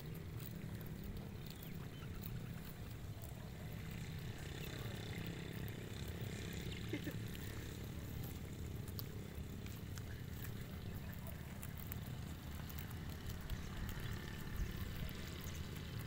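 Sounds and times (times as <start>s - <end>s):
low steady rumble: 0.0s - 16.0s
sheep cropping grass: 0.0s - 16.0s.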